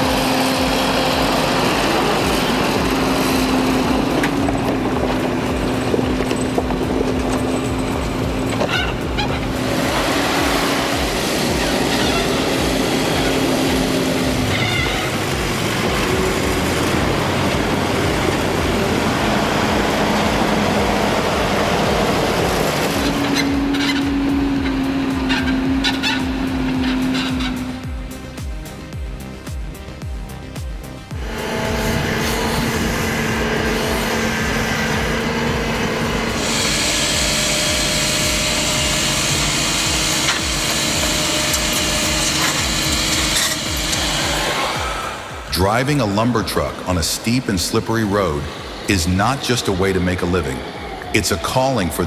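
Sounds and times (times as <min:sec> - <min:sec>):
machine sawing wood: 0:00.0 - 0:27.9, 0:31.2 - 0:52.0
heavy diesel engine running: 0:00.0 - 0:52.0
steady hum: 0:00.0 - 0:52.0.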